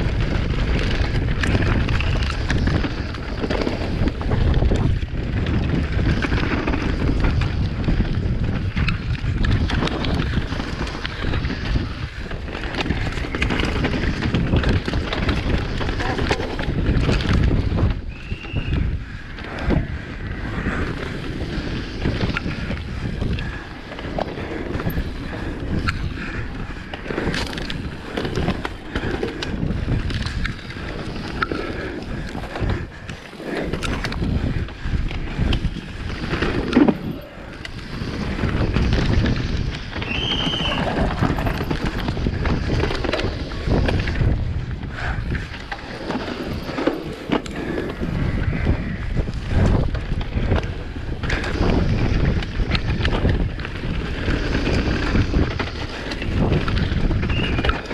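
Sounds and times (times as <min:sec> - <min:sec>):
bike frame and chain rattling: 0:00.0 - 0:57.9
tyres rumbling on dirt: 0:00.0 - 0:57.9
wind buffeting microphone: 0:00.0 - 0:57.9.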